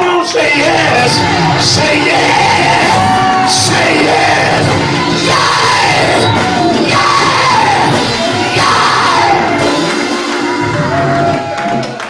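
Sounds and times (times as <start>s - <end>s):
voices shouting and singing: 0.0s - 11.6s
loud church music: 0.0s - 12.0s.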